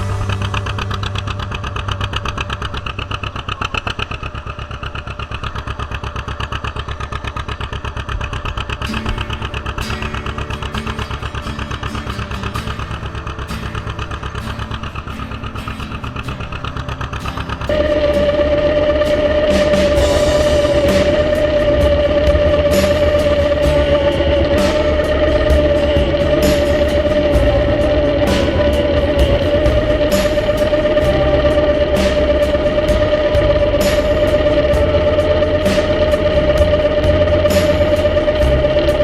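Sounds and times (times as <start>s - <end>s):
tractor engine pulsing exhaust: 0.0s - 39.0s.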